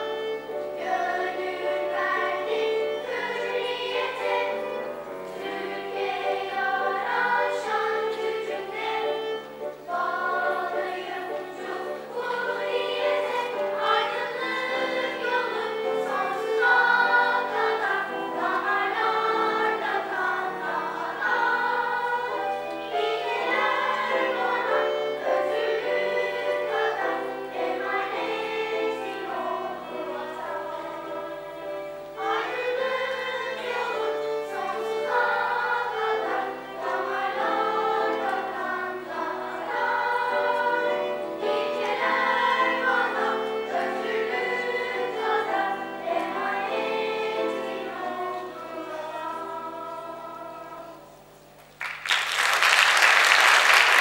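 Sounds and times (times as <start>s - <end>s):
violin: 0.0s - 51.0s
children's choir singing: 0.0s - 54.0s.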